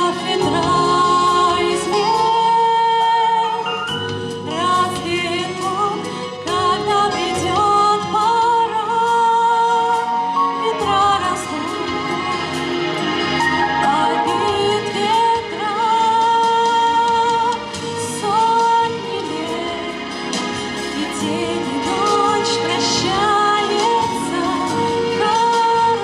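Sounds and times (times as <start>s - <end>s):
song with sung melody: 0.0s - 26.0s.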